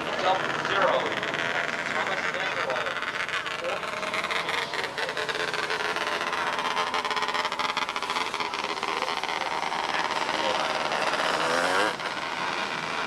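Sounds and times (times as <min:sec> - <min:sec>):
racing car engines accelerating: 0:00.0 - 0:13.0.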